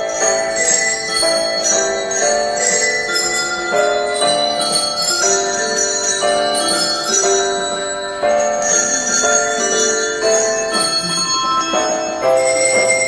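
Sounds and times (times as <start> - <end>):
melody on ringing bells: 0.0 - 13.0.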